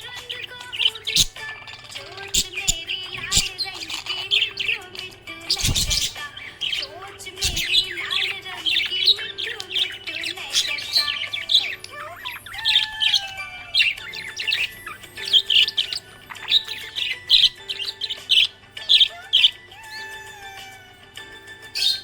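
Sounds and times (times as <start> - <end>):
budgerigars chirping and chattering: 0.0 - 22.0.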